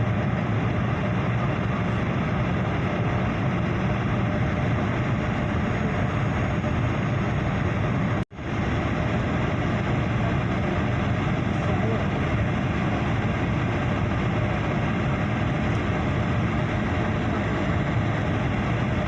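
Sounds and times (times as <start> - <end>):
jet engine roar in cabin: 0.0 - 19.0.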